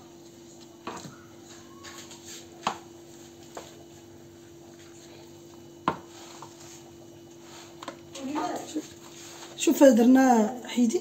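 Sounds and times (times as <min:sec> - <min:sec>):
faint rustling of food mixing: 0:00.0 - 0:11.0
faint steady hum: 0:00.0 - 0:11.0.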